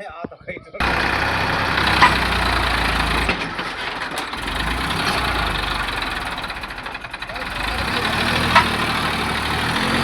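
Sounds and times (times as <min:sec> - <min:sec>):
tractor engine running: 0:00.8 - 0:10.0.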